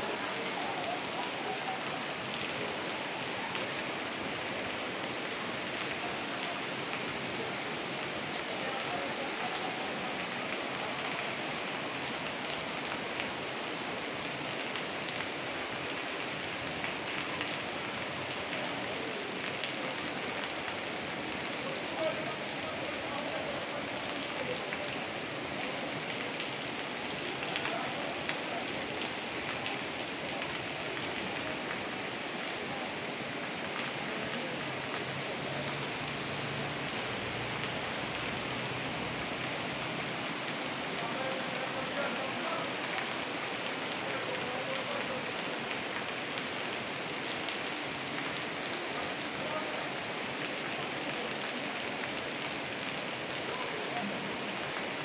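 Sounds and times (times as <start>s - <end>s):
flooding river rushing: 0.0s - 55.0s
heavy rain pouring: 0.0s - 55.0s.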